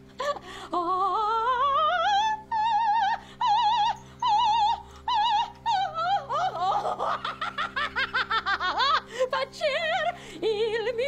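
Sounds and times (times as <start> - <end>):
steady low hum: 0.0 - 11.0
woman singing operatic soprano: 0.1 - 11.0.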